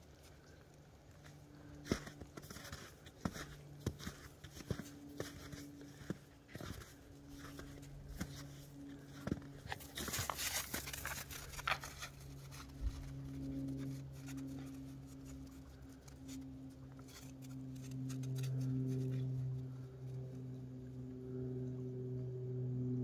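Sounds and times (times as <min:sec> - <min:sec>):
paws crunching in snow: 0:00.0 - 0:20.1
steady low hum: 0:00.0 - 0:23.0.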